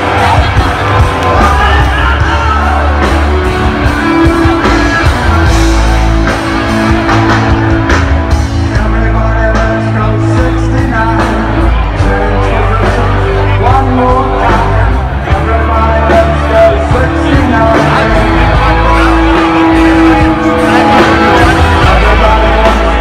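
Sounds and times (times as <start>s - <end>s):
guitar: 0.0s - 23.0s
heavy bass line: 0.0s - 23.0s
loud rock music: 0.0s - 23.0s
person singing: 0.0s - 23.0s.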